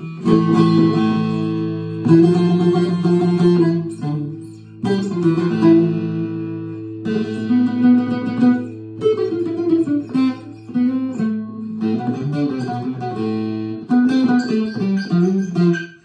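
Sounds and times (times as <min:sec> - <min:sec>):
long-necked lute melody: 0:00.0 - 0:16.0.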